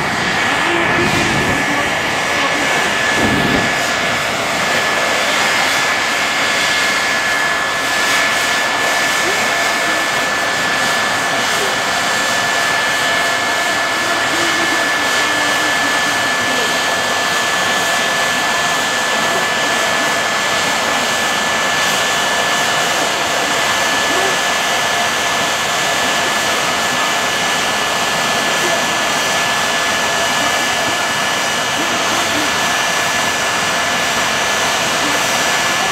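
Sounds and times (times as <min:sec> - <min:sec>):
high turbine whine: 0:00.0 - 0:35.9
turbine engine running: 0:00.0 - 0:35.9.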